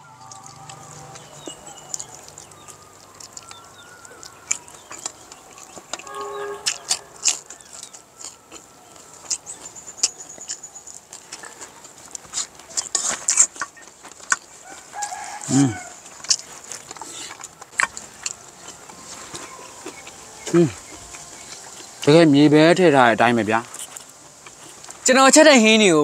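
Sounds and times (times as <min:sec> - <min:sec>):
chewing and lip smacks: 0:00.2 - 0:22.0
chickens clucking: 0:00.2 - 0:25.0.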